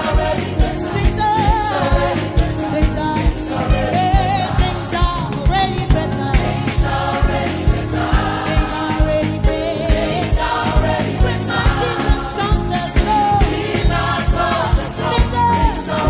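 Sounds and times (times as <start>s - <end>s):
choir singing: 0.0s - 5.3s, 6.3s - 16.0s
woman singing lead: 0.0s - 6.8s, 8.5s - 16.0s
band with drums bass and keyboards: 0.0s - 16.0s.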